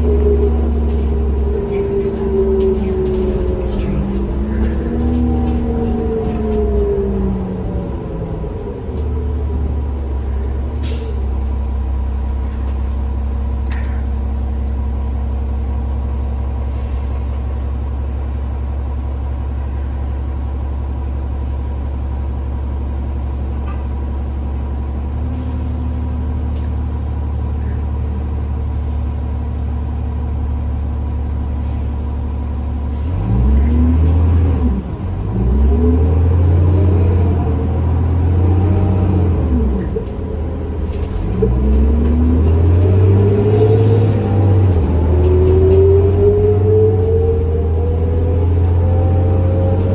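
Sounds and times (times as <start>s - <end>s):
bus diesel engine: 0.0s - 49.9s.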